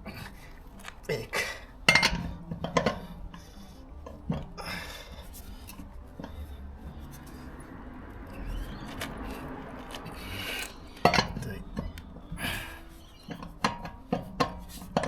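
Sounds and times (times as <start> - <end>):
low background rumble: 0.0 - 15.0
wheel brace clicking and scraping: 0.0 - 15.0.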